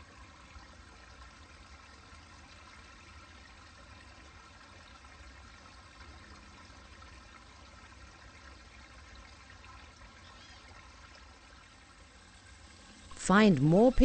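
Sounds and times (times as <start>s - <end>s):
stream trickling over rocks: 0.0s - 14.0s.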